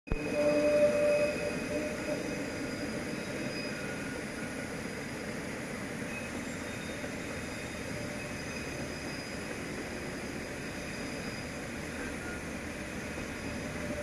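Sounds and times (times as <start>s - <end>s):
faint steady tones: 0.1s - 14.0s.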